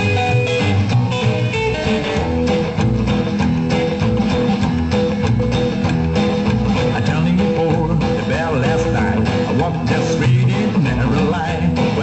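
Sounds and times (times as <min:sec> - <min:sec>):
bass notes: 0:00.0 - 0:12.0
rockabilly guitar: 0:00.0 - 0:12.0
steady drum beat: 0:00.0 - 0:12.0.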